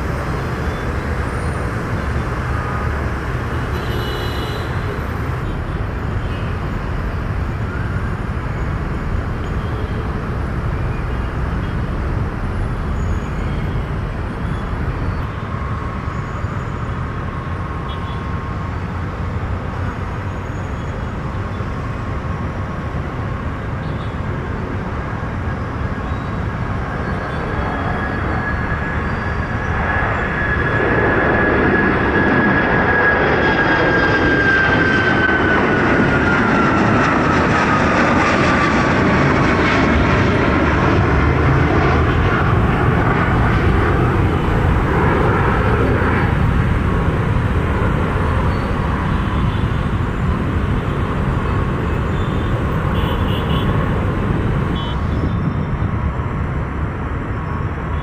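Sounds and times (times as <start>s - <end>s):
jet plane passing: 0.0s - 4.0s, 4.6s - 58.0s
high jet engine whine: 0.0s - 58.0s.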